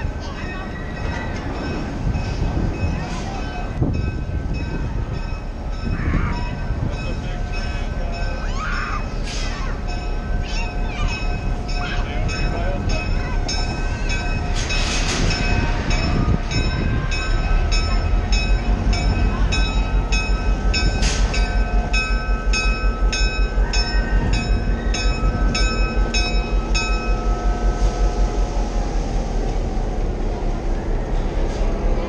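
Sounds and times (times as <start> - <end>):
bell ringing steadily: 0.0 - 28.3
diesel locomotive engine rumbling: 0.0 - 32.0.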